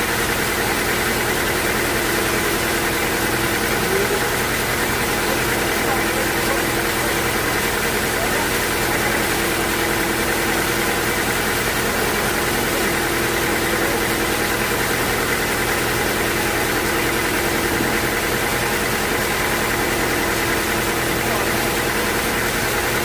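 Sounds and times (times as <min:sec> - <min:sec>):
sawmill machinery running: 0:00.0 - 0:23.0.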